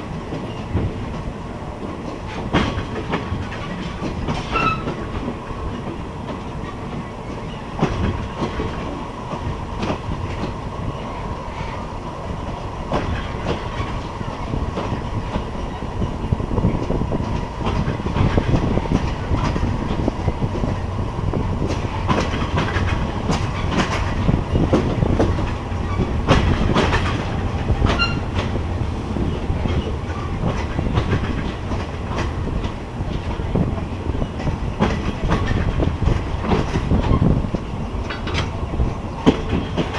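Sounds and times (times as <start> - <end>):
train rumbling on rails: 0.0 - 39.9
wheels clicking over rail joints: 0.1 - 10.6, 16.5 - 39.9.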